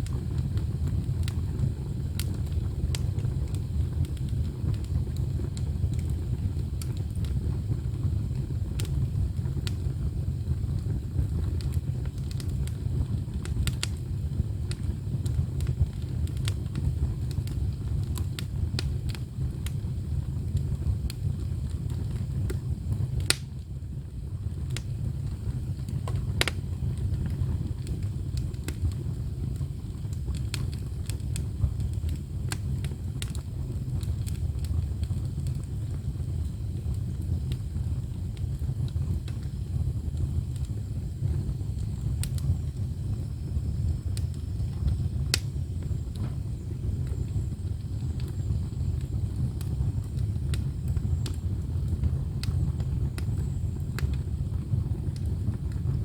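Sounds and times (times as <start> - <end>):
fire crackles and pops: 0.0 - 56.0
firewood burning rumble: 0.0 - 56.0.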